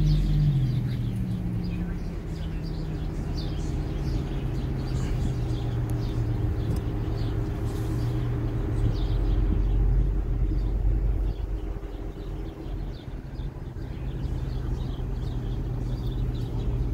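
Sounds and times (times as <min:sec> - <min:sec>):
car engine running: 0:00.0 - 0:16.9
many small birds chirping: 0:00.0 - 0:16.9.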